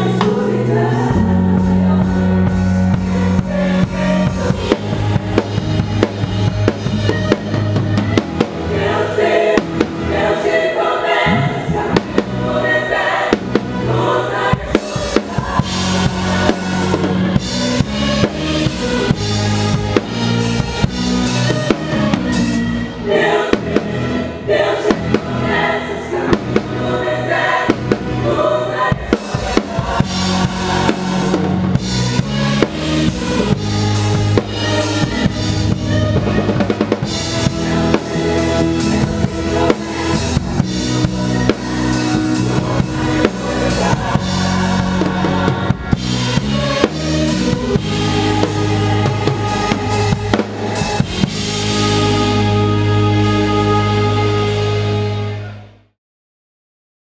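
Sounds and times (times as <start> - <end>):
rock drum kit: 0.0 - 55.4
guitar: 0.0 - 55.8
bass notes: 0.0 - 56.0.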